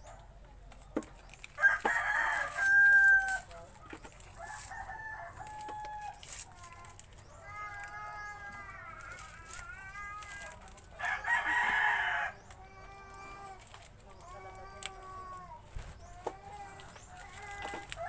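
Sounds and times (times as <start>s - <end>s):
roosters crowing: 1.3s - 18.0s.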